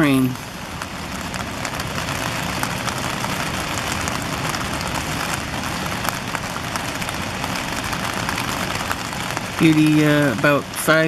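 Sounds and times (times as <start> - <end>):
heavy rain on car: 0.0 - 11.0.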